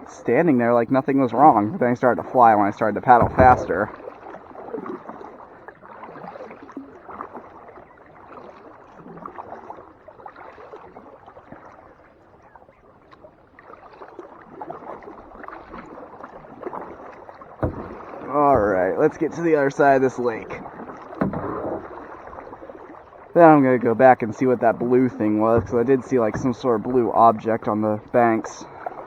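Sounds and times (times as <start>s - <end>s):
paddle splashing in water: 0.0s - 29.0s.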